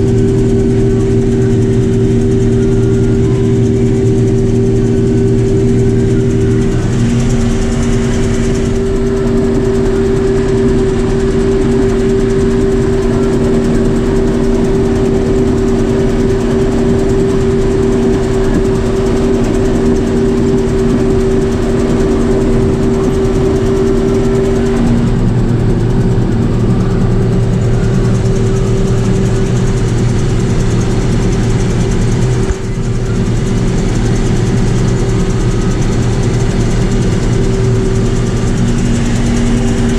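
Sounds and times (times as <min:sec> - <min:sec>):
combine harvester engine drone: 0:00.0 - 0:39.9
deeper hum: 0:00.0 - 0:39.9
steady whine: 0:00.0 - 0:39.9.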